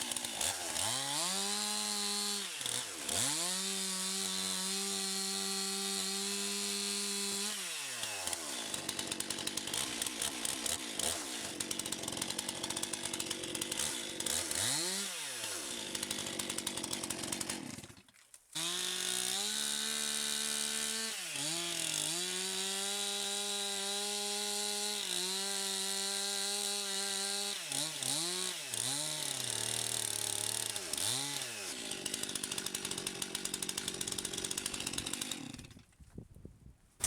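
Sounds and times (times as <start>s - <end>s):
chainsaw running at high revs: 0.0s - 35.9s.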